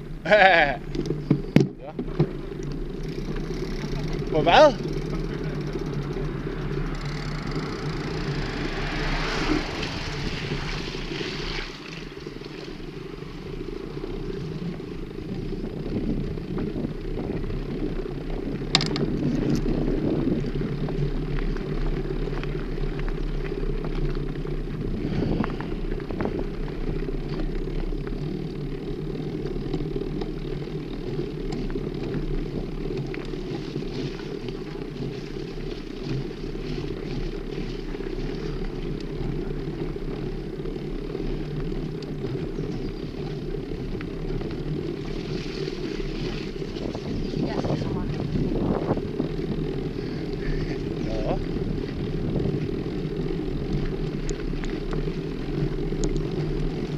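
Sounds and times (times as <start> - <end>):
bike tyre and wind rumble: 0.0 - 56.9.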